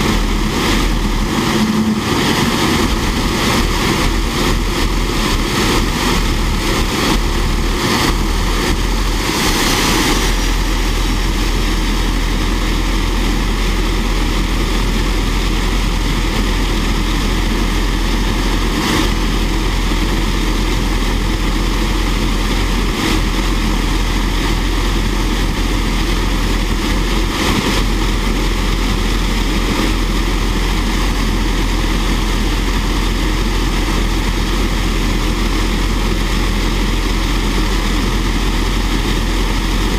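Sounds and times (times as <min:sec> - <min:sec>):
jet engine rushing: 0:00.0 - 0:39.9.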